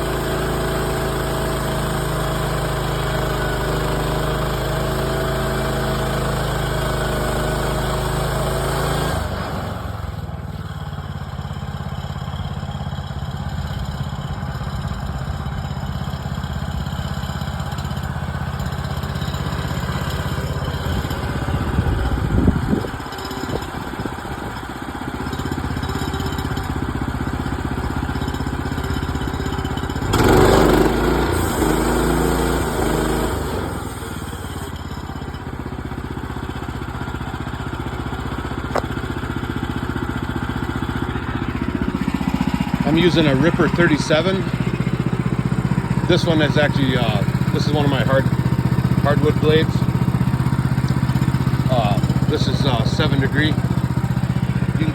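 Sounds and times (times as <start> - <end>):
small gasoline engine running: 0.0 - 54.9.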